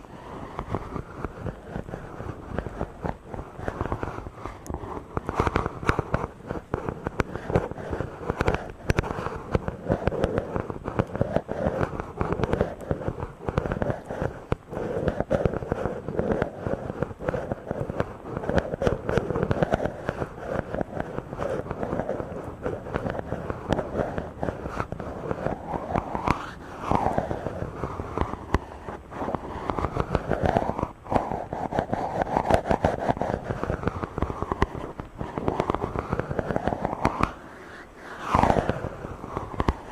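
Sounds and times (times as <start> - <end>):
hands rubbing on microphone: 0.0 - 39.9.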